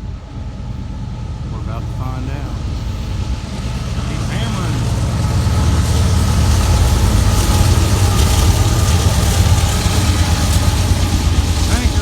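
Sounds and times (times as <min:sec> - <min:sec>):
diesel locomotive engine rumbling: 0:00.0 - 0:12.0.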